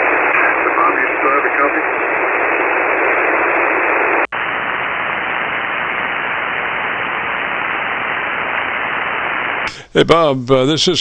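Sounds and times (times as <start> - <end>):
shortwave radio hiss: 0.0 - 10.7.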